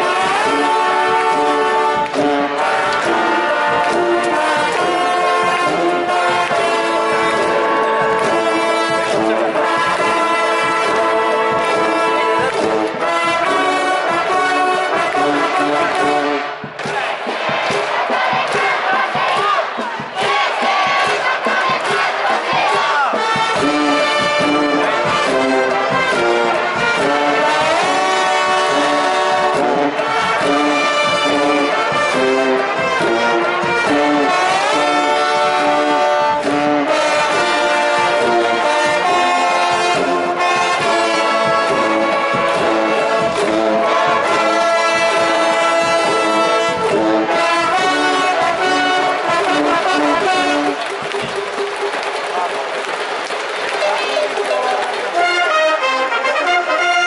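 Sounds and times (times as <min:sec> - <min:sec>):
brass band playing cheer tune: 0:00.0 - 0:57.0.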